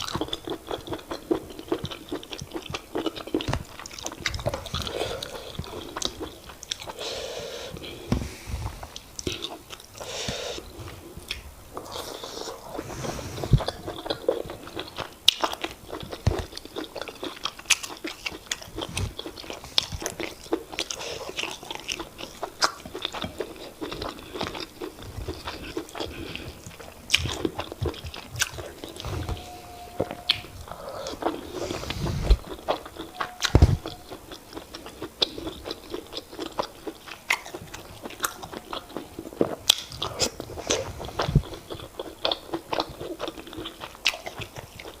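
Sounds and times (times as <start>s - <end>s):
person chewing: 0.0s - 45.0s.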